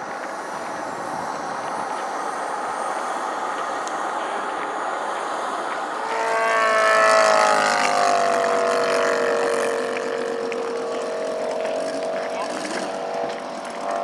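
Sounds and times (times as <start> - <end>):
steady rushing noise: 0.0 - 14.0
model plane engine flying past: 0.6 - 14.0.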